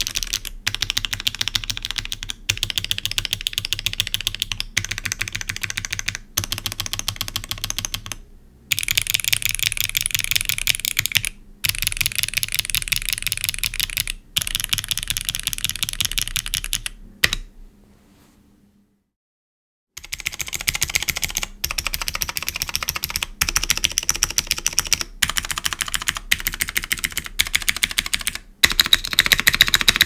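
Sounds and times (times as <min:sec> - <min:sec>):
clicky mechanical keyboard typing: 0:00.0 - 0:17.5, 0:20.0 - 0:30.0.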